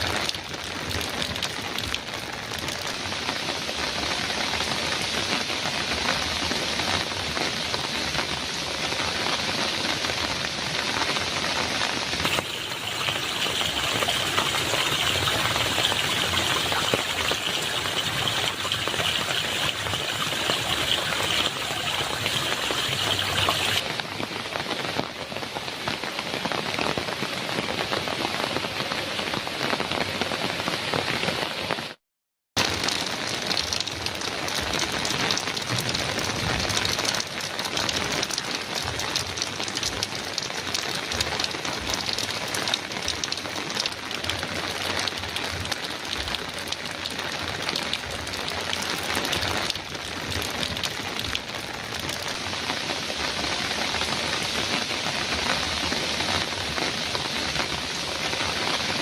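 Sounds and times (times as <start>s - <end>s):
heavy rain on a metal roof: 0.0s - 32.0s, 32.6s - 59.0s.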